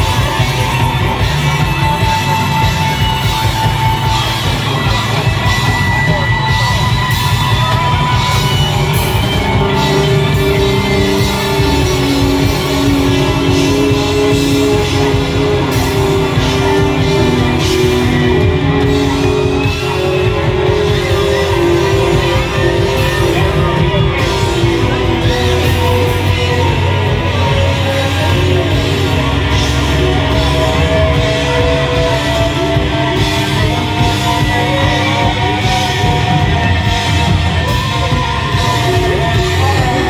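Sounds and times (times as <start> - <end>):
guitar sustained notes: 0.0 - 40.0
live rock band: 0.0 - 40.0.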